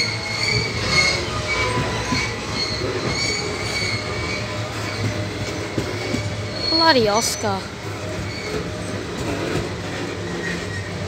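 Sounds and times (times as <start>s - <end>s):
freight train rumbling past: 0.0s - 11.0s
train wheels squealing: 0.0s - 11.0s.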